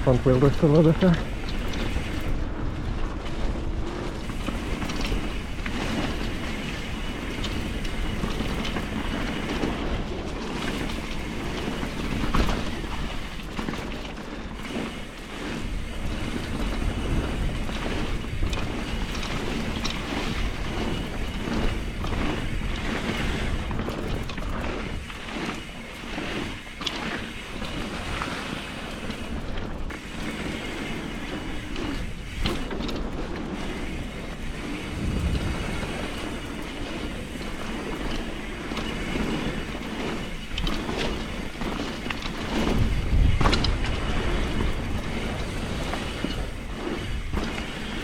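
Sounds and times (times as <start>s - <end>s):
bike rattling and knocking: 0.0s - 48.0s
bike tyres rolling on dirt: 0.0s - 48.0s.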